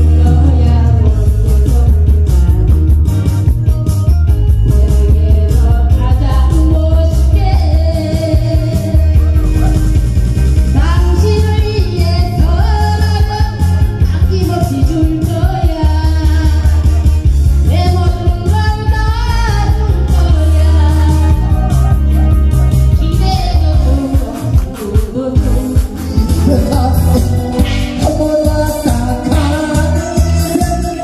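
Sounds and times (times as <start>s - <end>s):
person singing: 0.0s - 3.2s, 4.6s - 10.1s, 10.7s - 31.0s
music with heavy bass: 0.0s - 31.0s.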